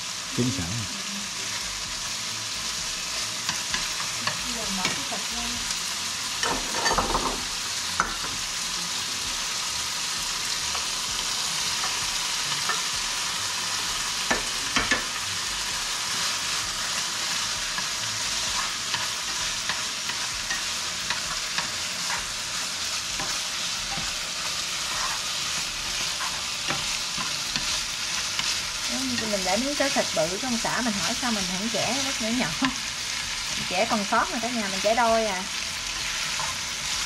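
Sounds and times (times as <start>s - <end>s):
chicken sizzling in oil: 0.0s - 37.0s.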